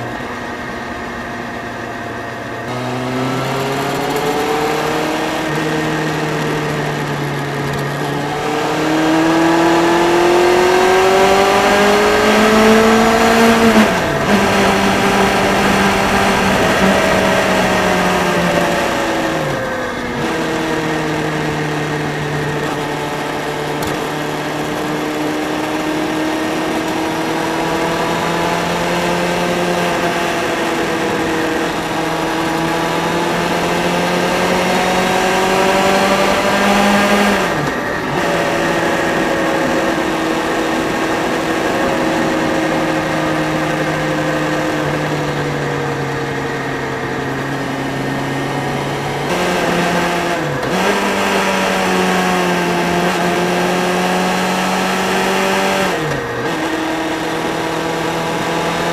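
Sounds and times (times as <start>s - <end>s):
motorbike engine running: 0.0s - 54.0s
wind and road noise: 0.0s - 58.9s.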